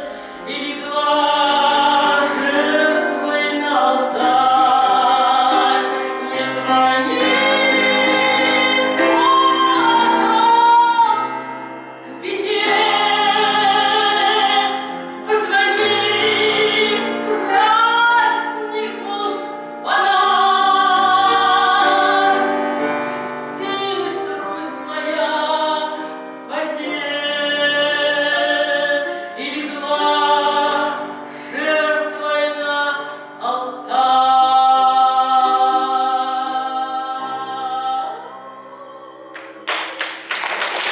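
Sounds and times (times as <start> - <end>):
woman singing with vibrato: 0.0 - 11.4, 12.0 - 39.8
sustained musical accompaniment: 0.0 - 40.9.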